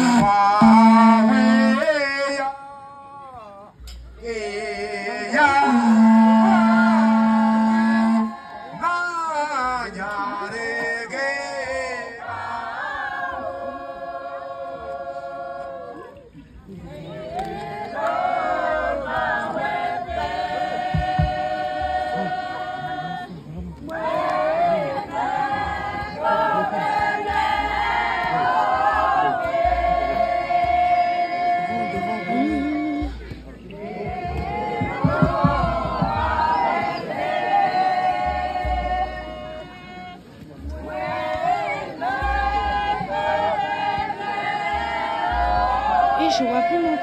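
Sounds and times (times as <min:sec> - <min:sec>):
group singing in harmony: 0:00.0 - 0:03.5, 0:04.2 - 0:47.0.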